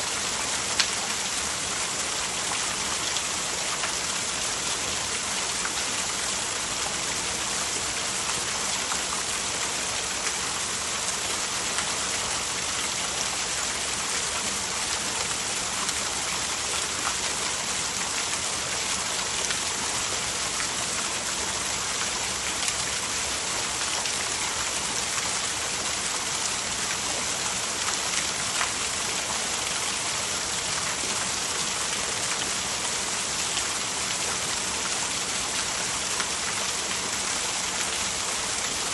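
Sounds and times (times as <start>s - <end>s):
hiss of falling water: 0.0s - 38.9s.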